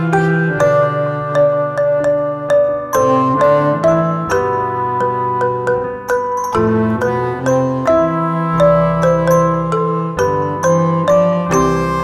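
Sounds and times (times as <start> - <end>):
mallet percussion melody: 0.0 - 12.0.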